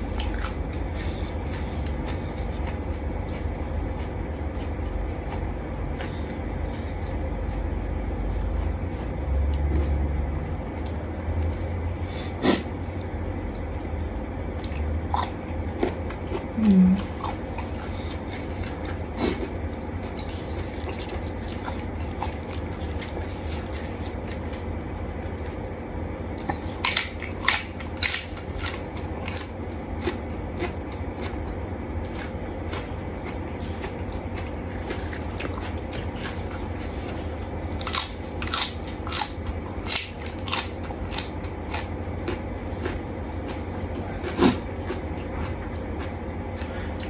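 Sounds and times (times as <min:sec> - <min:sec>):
crisp chewing crunches: 0:00.0 - 0:11.7, 0:12.7 - 0:47.0
steady low hum: 0:00.0 - 0:47.0.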